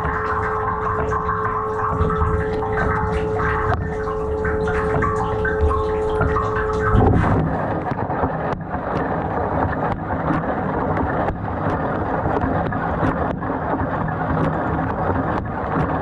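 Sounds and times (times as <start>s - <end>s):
sharp splashes or ticks: 0.0s - 16.0s.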